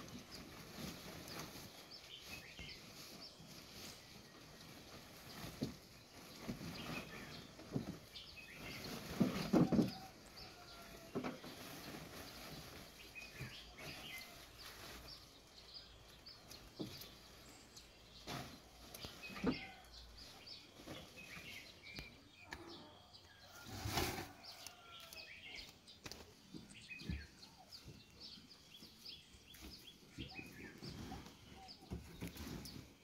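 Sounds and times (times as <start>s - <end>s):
greens rustling: 0.0s - 33.0s
small birds chirping: 0.0s - 33.0s.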